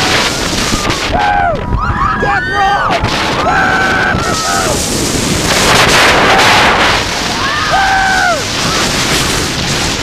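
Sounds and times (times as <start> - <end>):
roller coaster train on rails: 0.0 - 10.0
rush of wind: 0.0 - 10.0.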